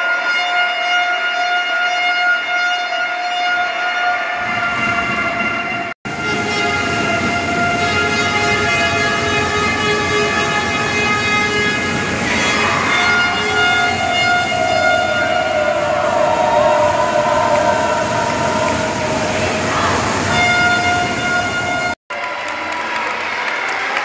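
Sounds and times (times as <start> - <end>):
air horn blasts: 0.0 - 22.0
crowd noise: 3.7 - 24.0.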